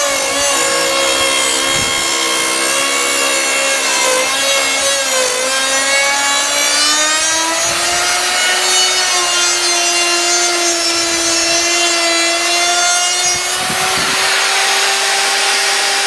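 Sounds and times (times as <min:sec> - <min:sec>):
router bit cutting wood: 0:00.0 - 0:16.0
router motor whine: 0:00.0 - 0:16.0.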